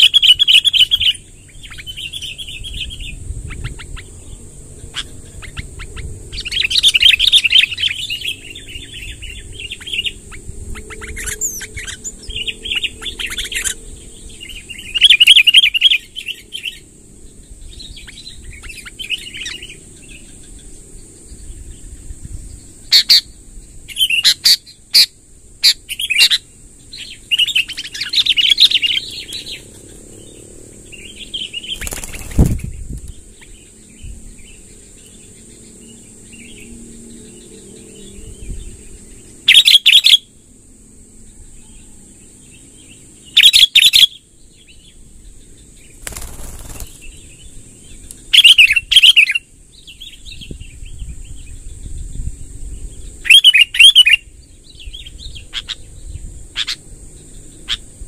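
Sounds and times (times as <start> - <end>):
birds singing and chattering: 0.0 - 58.0.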